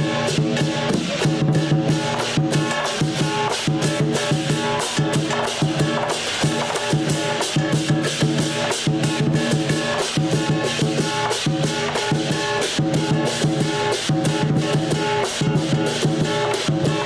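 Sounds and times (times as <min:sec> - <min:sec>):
big drum beating: 0:00.0 - 0:17.0
cymbals crashing: 0:00.0 - 0:17.0.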